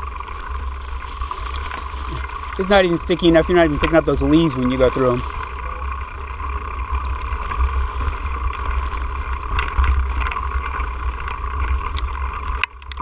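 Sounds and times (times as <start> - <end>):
bike clicks and rattles: 0.0 - 13.0
bike tyres rolling on dirt: 0.0 - 13.0.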